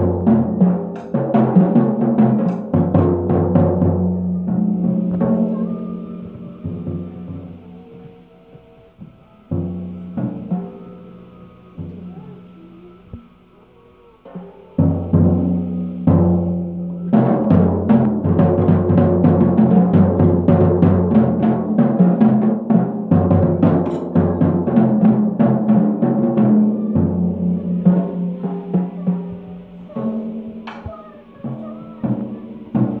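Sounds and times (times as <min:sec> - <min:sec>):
drum kit playing: 0:00.0 - 0:07.8, 0:14.3 - 0:33.0.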